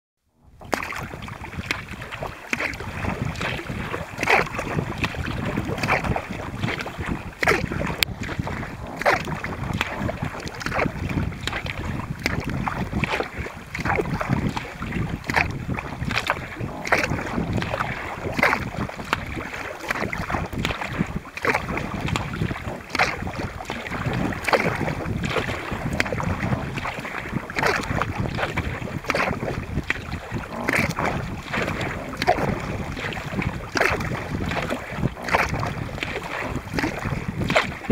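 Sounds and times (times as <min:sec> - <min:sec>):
paddle blades splashing: 0:00.4 - 0:37.9
water rushing along hull: 0:00.4 - 0:37.9
wind on microphone: 0:00.4 - 0:37.9.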